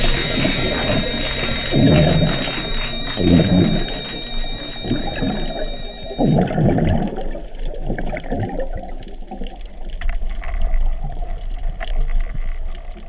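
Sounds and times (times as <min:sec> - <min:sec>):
muffled underwater rushing: 0:00.0 - 0:12.6.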